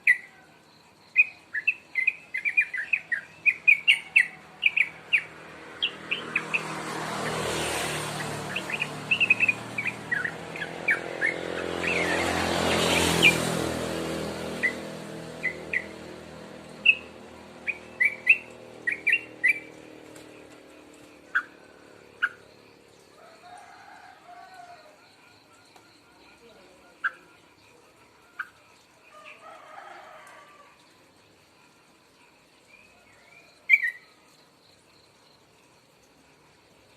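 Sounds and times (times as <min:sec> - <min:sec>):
rushing noise of passing vehicles: 0:01.1 - 0:34.0.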